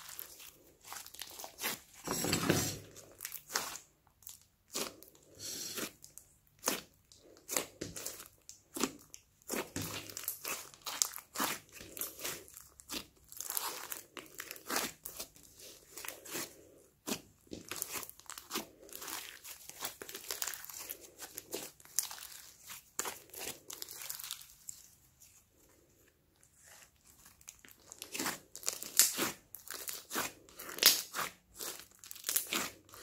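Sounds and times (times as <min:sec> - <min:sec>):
slime crackling and popping: 0:02.8 - 0:05.2, 0:05.8 - 0:24.8, 0:27.0 - 0:33.0.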